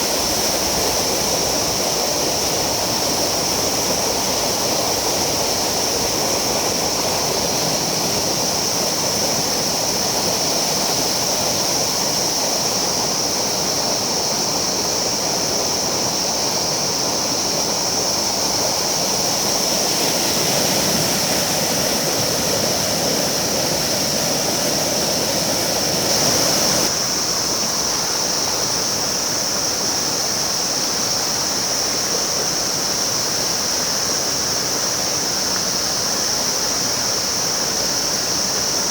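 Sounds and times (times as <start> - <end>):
river water rushing over stones: 0.0 - 38.9.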